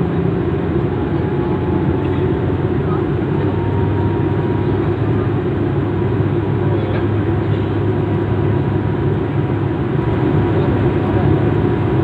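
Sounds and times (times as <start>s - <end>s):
vehicle rumble in motion: 0.0s - 12.0s.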